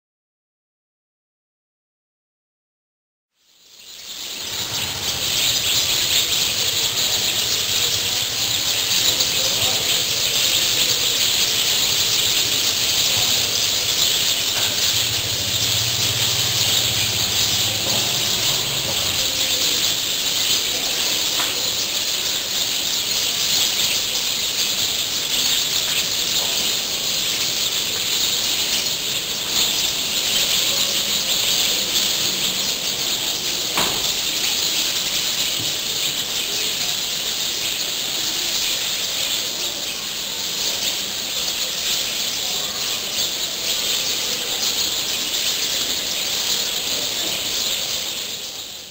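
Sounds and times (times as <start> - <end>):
small birds chirping: 3.4 - 48.9.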